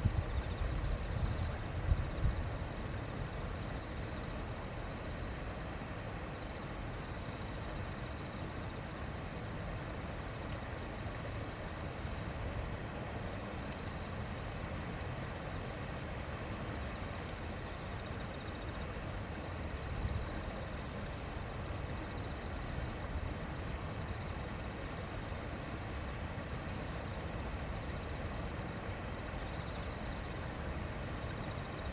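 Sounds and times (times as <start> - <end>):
shallow river babbling: 0.0 - 31.9.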